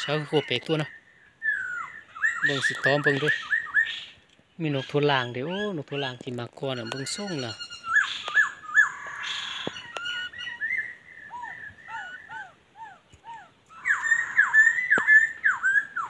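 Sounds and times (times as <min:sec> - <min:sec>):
birds whistling calls: 0:00.0 - 0:16.0.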